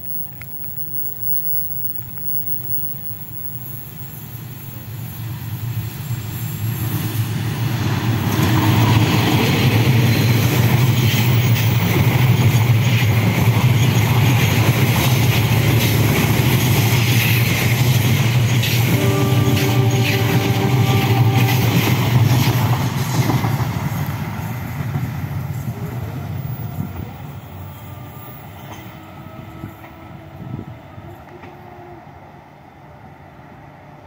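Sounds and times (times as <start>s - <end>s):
diesel train engine drone: 0.0s - 34.0s
train running noise on rails: 0.0s - 34.0s.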